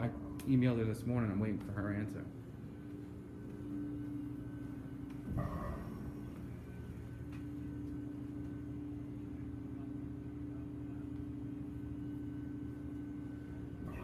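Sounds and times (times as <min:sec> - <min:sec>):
low buzzing hum: 0:00.0 - 0:14.0.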